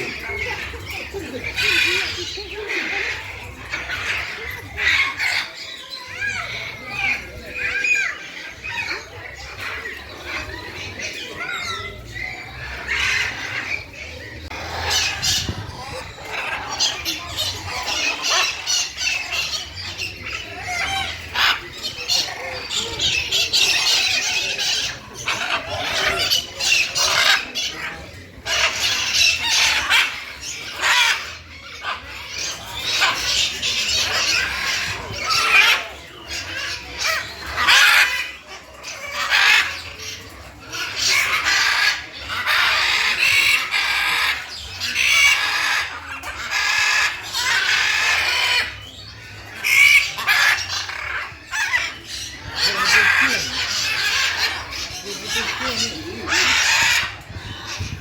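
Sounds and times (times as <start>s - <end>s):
birds chirping and squawking: 0.0s - 58.0s.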